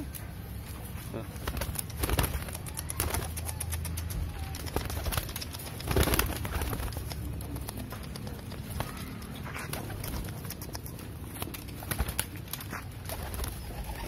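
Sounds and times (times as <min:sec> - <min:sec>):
pigeon wings flapping: 0:01.2 - 0:14.0
pigeons cooing: 0:01.8 - 0:14.0.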